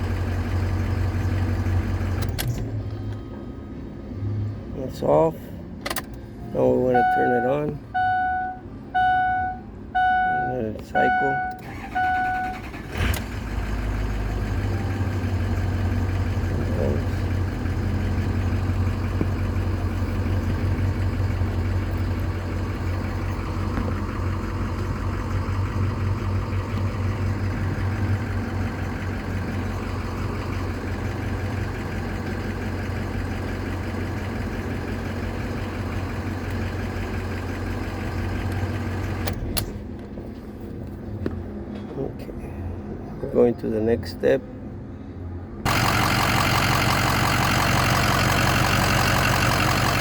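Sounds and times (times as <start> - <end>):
diesel engine idling: 0.0 - 50.0.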